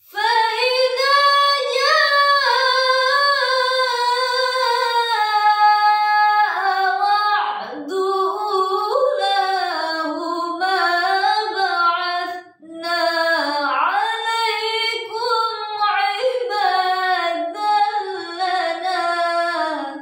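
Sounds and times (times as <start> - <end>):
woman reciting melodically: 0.0 - 20.0.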